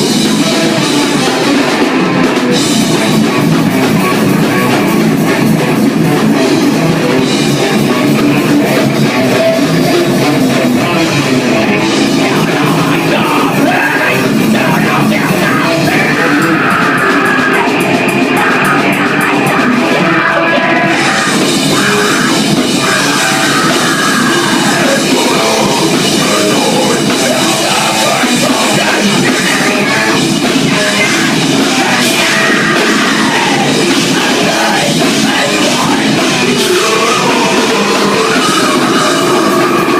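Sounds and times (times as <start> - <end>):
heavy rock band playing: 0.0 - 39.9.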